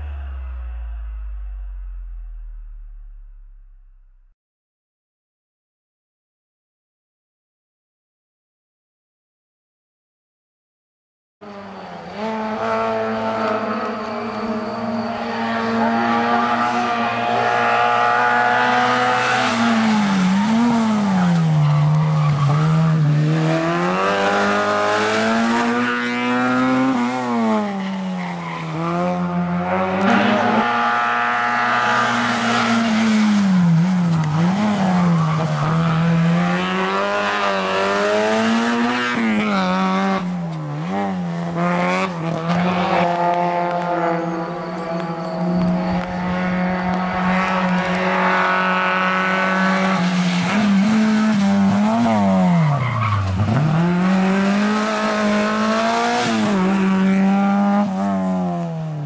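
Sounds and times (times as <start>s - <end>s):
rally car engine at full throttle: 0.0s - 4.3s, 11.4s - 59.0s.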